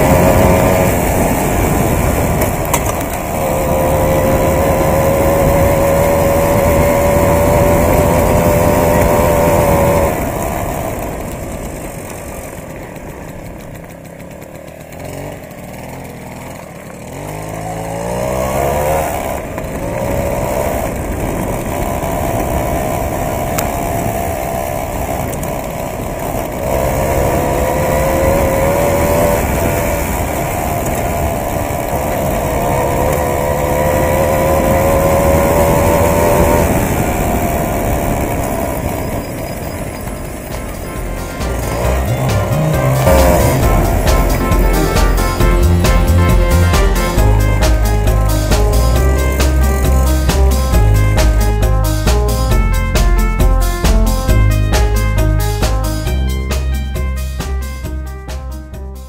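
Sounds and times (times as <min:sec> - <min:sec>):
moped engine running: 0:00.0 - 0:59.0
road and wind noise: 0:00.0 - 0:59.0.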